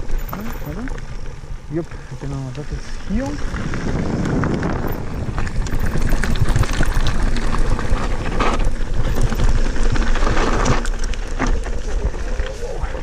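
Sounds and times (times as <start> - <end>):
bike rattles and clicks: 0.0 - 13.0
tyres crunching over gravel: 0.0 - 13.0
wind rumble on microphone: 0.0 - 13.0.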